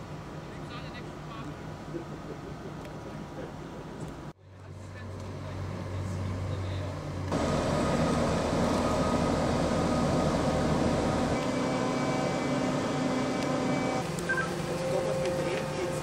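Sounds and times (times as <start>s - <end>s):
heavy machinery engine hum: 0.0s - 16.0s.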